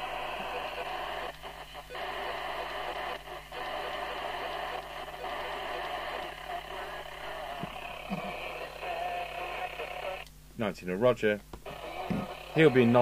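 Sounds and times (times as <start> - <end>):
radio receiver hissing: 0.0 - 10.3, 11.6 - 13.0.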